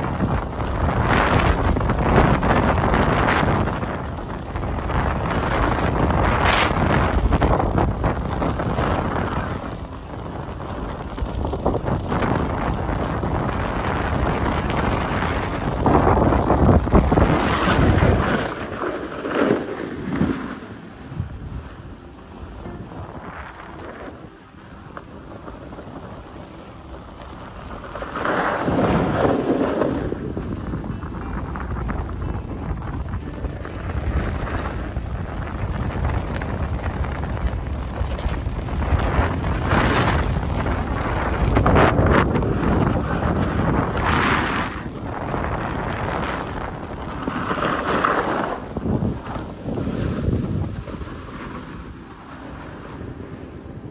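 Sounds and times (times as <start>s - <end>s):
skis sliding over snow: 0.0s - 53.9s
wind rushing over microphone: 0.0s - 53.9s.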